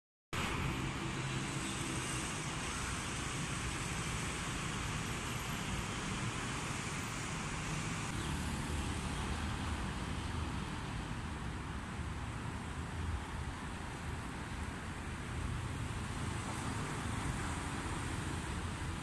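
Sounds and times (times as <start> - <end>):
city road traffic: 0.3 - 19.0.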